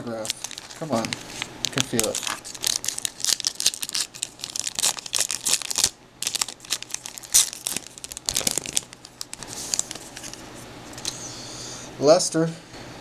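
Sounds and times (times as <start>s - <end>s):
plastic wrapper tearing and crinkling: 0.0s - 11.1s.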